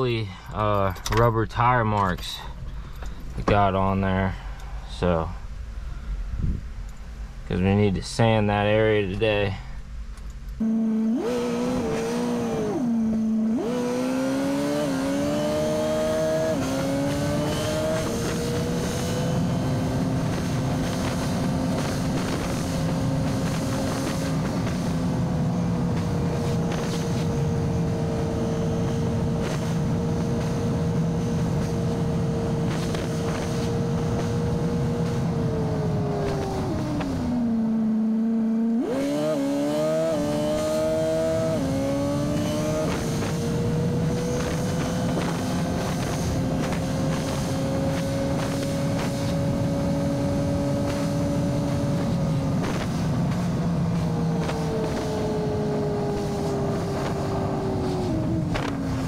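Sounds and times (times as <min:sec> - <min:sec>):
road noise: 0:00.0 - 0:59.0
truck engine: 0:10.2 - 0:59.0.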